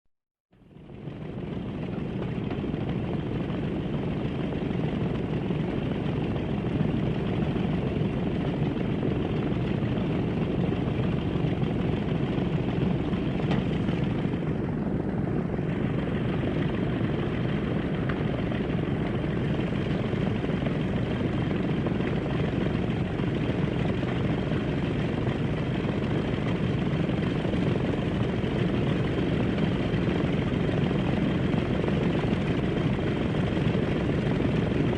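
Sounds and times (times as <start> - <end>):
airplane engine drone: 0.6 - 34.9.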